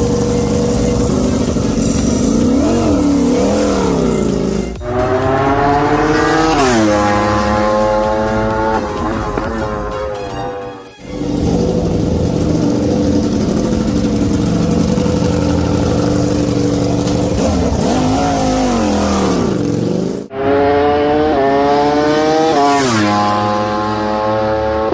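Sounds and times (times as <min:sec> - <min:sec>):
racing motorcycle engines revving: 0:00.0 - 0:24.9.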